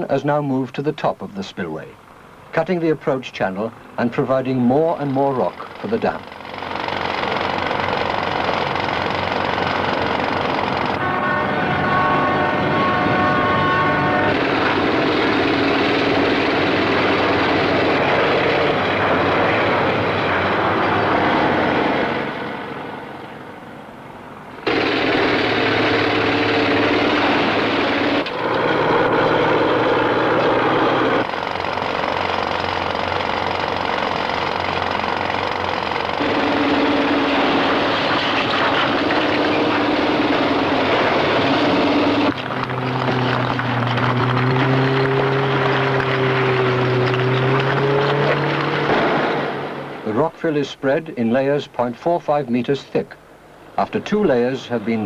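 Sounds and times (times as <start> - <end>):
heavy machinery running: 4.4 - 51.0.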